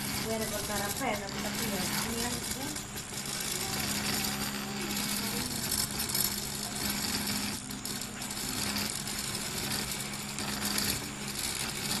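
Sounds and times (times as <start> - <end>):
stepper motors humming: 0.0 - 12.0.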